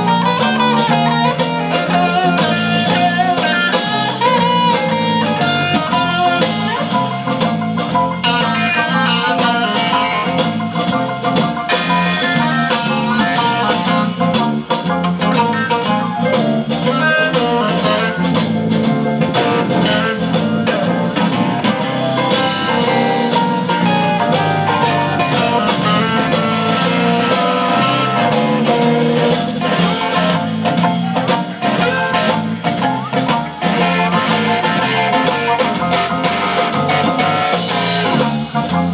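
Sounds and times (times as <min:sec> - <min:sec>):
drum kit steady beat: 0:00.0 - 0:38.9
electric guitars: 0:00.0 - 0:38.9
keyboard: 0:00.0 - 0:38.9.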